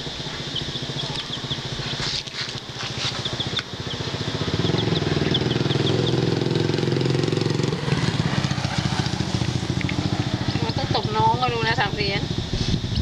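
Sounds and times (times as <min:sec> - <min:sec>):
small engine pulsing: 0:00.0 - 0:13.0
chicks peeping: 0:00.1 - 0:07.8, 0:08.4 - 0:13.0.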